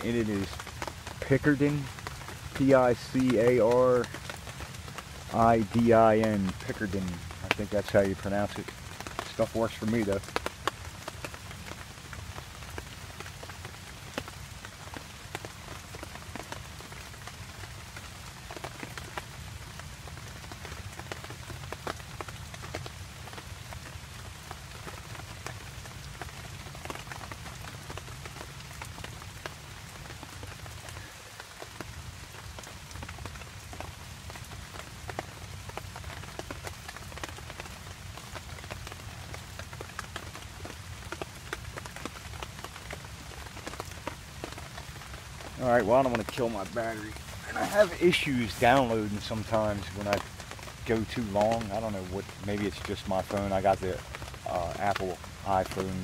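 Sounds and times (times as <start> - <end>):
raindrops striking close by: 0.0 - 56.0
steady rain in woodland: 0.0 - 56.0.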